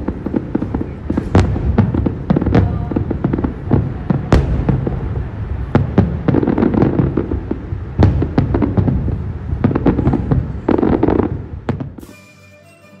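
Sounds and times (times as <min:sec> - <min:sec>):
fireworks booming and crackling: 0:00.0 - 0:12.2.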